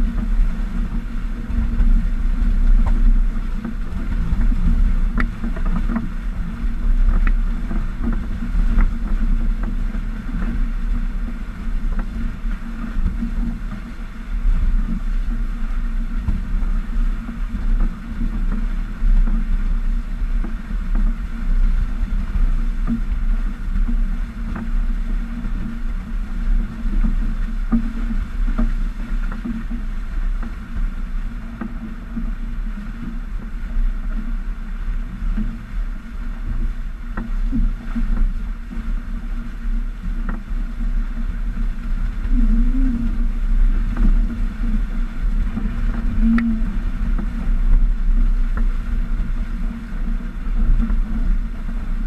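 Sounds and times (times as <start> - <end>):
water rushing along boat hull: 0.0 - 52.0.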